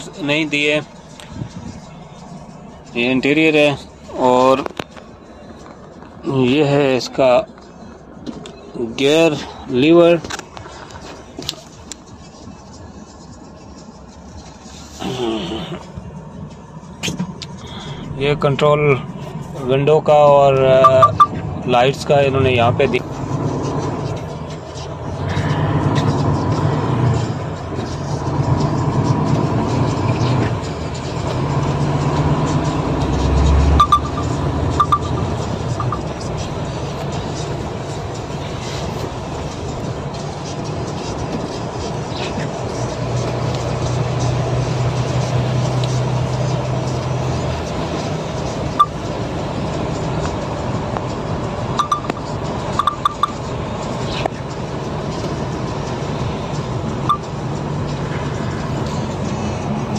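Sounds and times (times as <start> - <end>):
road noise on wet road: 0.0 - 59.9
truck engine drone: 0.0 - 59.9.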